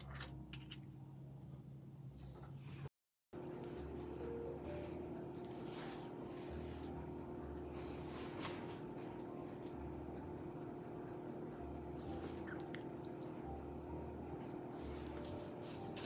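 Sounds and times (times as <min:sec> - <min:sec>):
steady low hum: 0:00.2 - 0:16.0.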